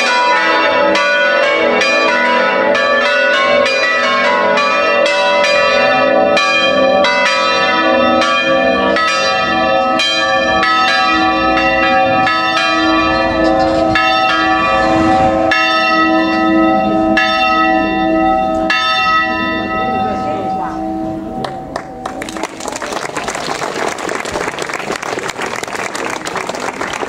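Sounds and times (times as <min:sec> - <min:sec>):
swinging church bells ringing: 0:00.0 - 0:22.6.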